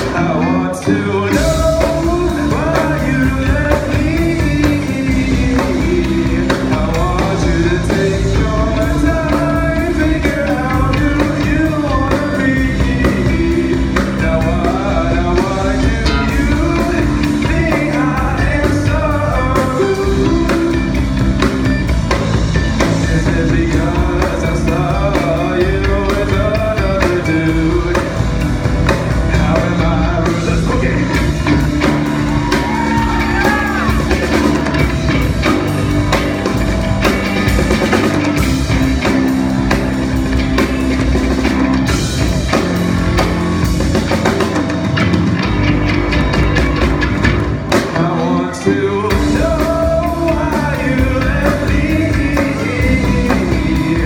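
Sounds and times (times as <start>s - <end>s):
lead singer singing: 0.0s - 45.5s, 47.6s - 54.0s
live rock band playing: 0.0s - 54.0s.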